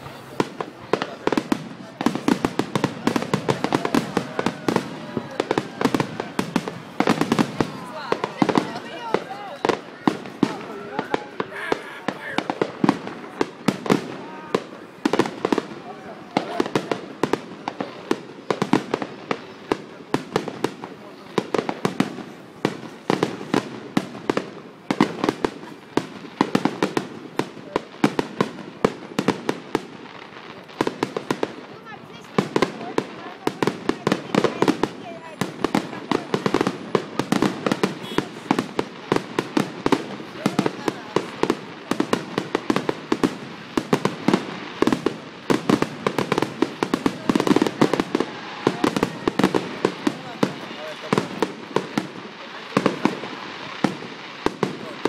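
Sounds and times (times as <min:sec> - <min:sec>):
fireworks bangs and cracks: 0:00.0 - 0:55.0.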